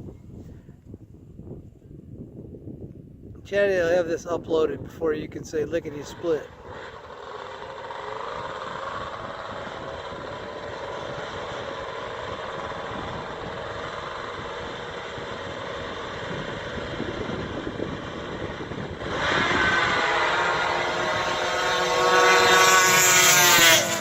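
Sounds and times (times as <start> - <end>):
snowmobile engines idling and revving: 3.5 - 24.0.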